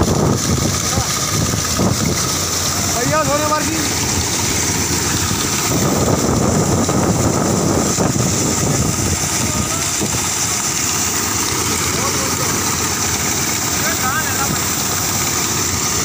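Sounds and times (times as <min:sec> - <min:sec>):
combine harvester engine running: 0:00.0 - 0:16.0
grain pouring from spout: 0:00.0 - 0:16.0.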